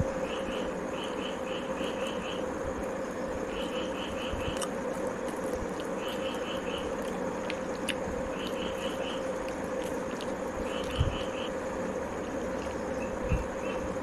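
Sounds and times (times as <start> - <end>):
insect chirping: 0.0 - 14.0
steady hum: 0.0 - 14.0.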